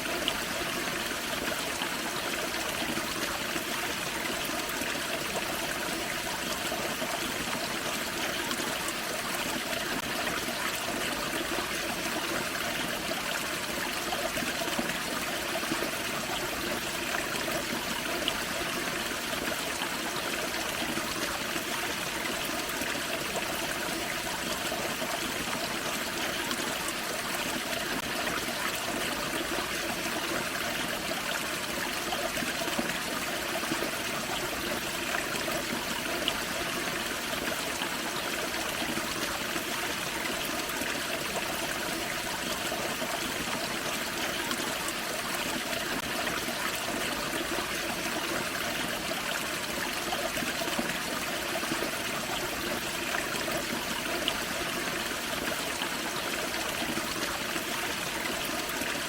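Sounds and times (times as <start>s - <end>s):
creek water splashing and trickling: 0.0s - 59.0s.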